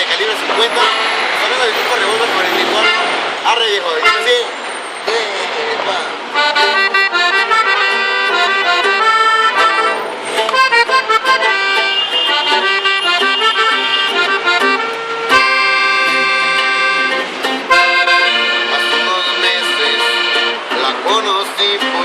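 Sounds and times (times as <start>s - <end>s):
band playing: 0.5s - 22.0s
accordion fast melodic run: 0.8s - 3.3s, 4.0s - 4.5s, 6.3s - 22.0s.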